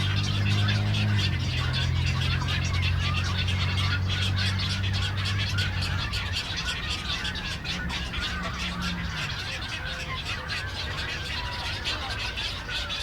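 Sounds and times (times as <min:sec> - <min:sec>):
water birds chattering and croaking: 0:00.0 - 0:13.0.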